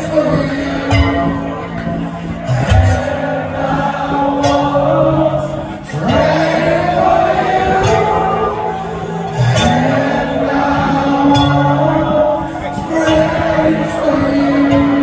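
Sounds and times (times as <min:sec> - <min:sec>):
heavy metal band playing live: 0:00.0 - 0:15.0
person singing: 0:00.0 - 0:15.0.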